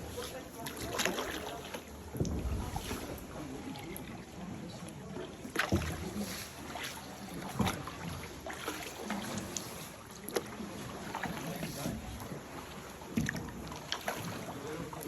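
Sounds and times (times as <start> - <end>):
kayak paddle splashing water: 0.0 - 15.0.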